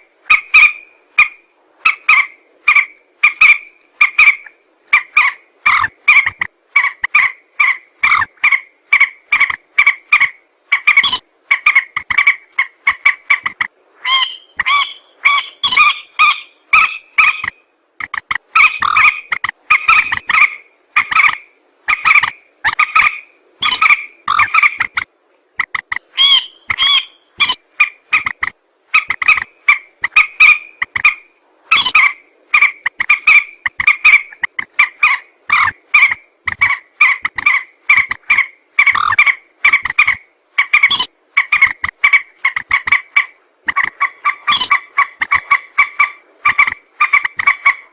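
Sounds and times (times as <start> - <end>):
harsh clucking bird calls: 0.0 - 47.9.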